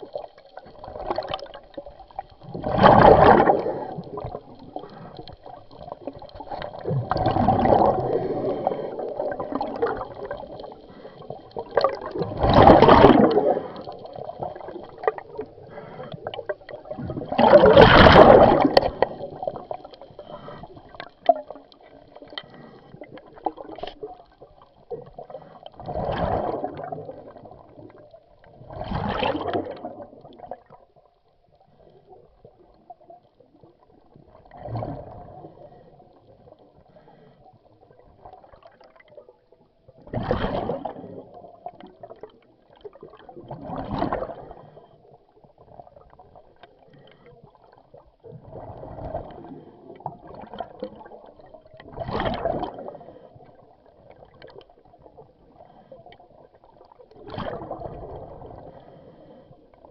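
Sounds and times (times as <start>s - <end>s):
regulator bubbles underwater: 0.0s - 59.9s.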